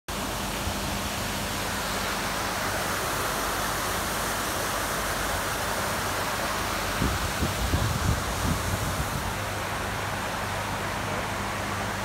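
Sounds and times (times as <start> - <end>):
waterfall rushing: 0.2 - 12.0.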